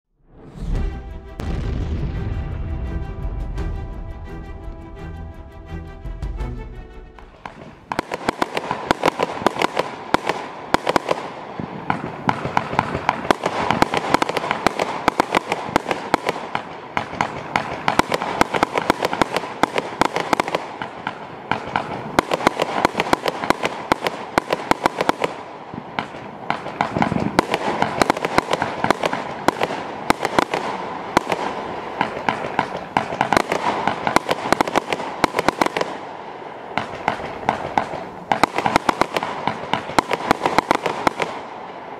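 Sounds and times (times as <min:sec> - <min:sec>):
fireworks launching and bursting: 0:00.2 - 0:04.4, 0:07.2 - 0:41.9.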